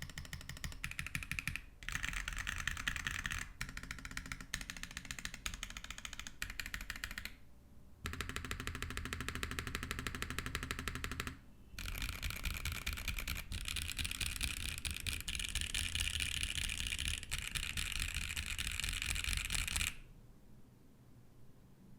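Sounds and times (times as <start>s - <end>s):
fast typing on mechanical keyboard: 0.0s - 7.4s, 8.0s - 20.0s.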